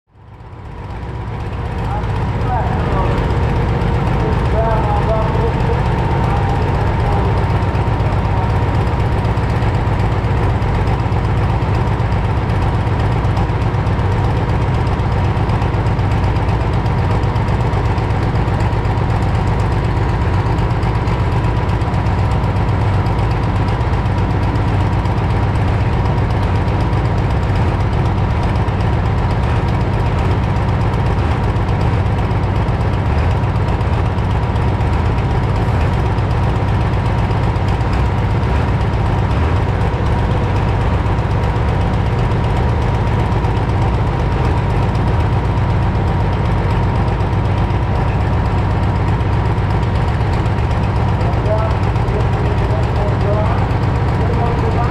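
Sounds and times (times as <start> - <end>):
diesel tractor engine idling: 0.1 - 54.9.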